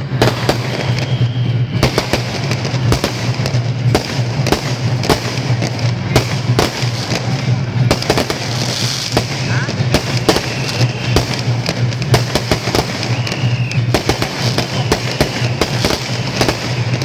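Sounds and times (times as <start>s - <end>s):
crowd noise: 0.0s - 17.0s
firecrackers banging: 0.0s - 17.0s.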